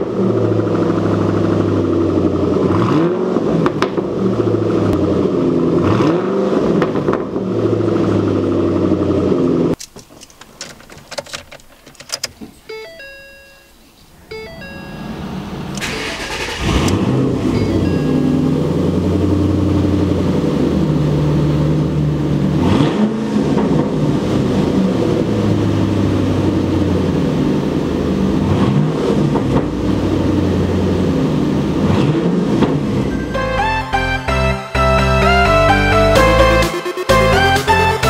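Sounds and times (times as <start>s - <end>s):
car engine revving: 0.0s - 9.8s, 14.3s - 38.0s
car engine starting: 0.0s - 38.0s.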